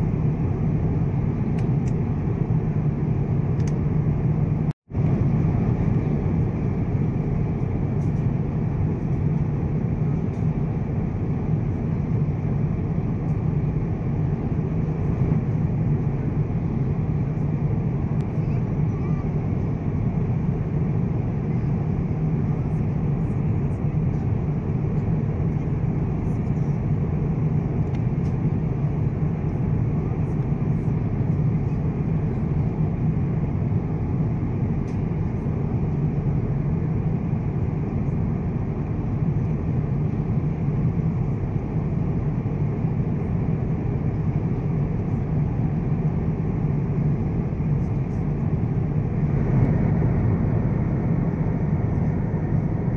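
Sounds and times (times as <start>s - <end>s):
airplane cabin airflow and engine noise: 0.0s - 52.9s.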